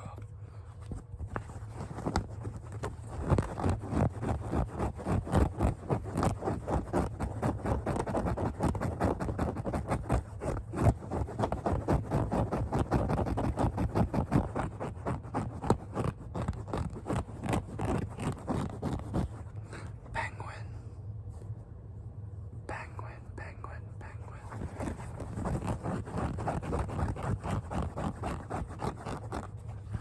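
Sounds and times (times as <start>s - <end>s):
scratching on hard cap: 0.8s - 19.9s, 24.1s - 30.0s.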